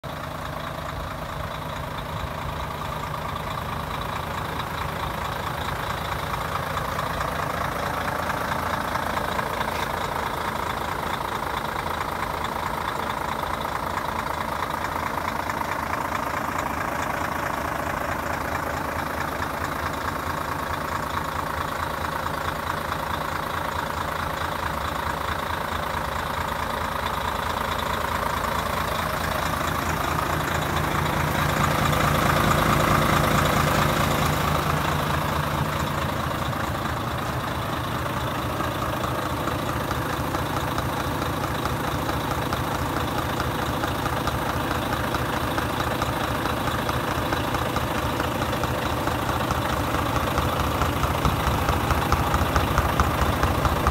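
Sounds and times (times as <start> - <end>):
diesel truck engine idling: 0.0 - 53.9.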